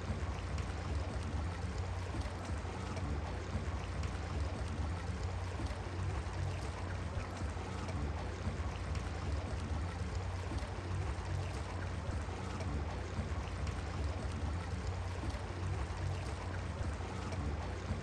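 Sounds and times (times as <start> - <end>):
constant low hum: 0.0 - 18.0
rushing water: 0.0 - 18.0.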